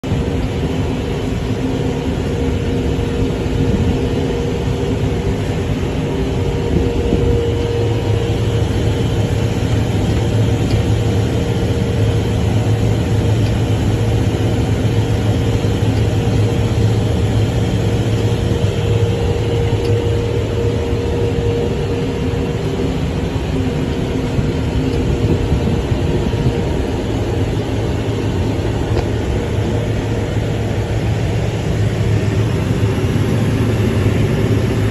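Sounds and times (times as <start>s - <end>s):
tractor diesel engine droning: 0.1s - 34.9s.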